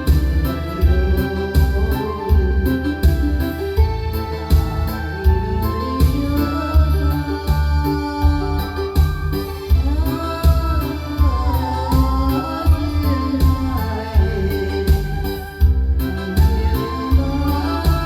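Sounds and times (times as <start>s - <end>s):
gliding lead melody: 0.0s - 18.0s
instrumental music with keyboard chords: 0.0s - 18.0s.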